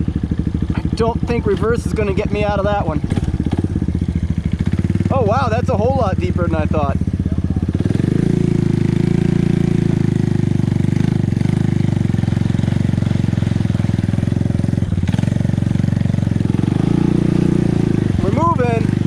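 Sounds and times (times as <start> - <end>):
quad bike engine under load: 0.0 - 19.0.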